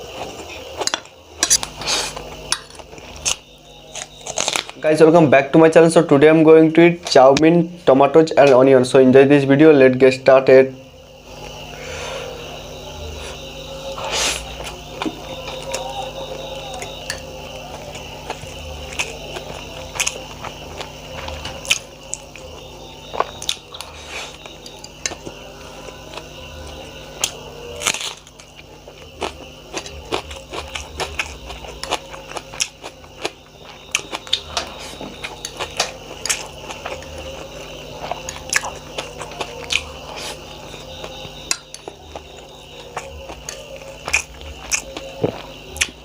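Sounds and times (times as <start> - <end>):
chewing with crunches: 0.0 - 5.2, 11.3 - 46.0.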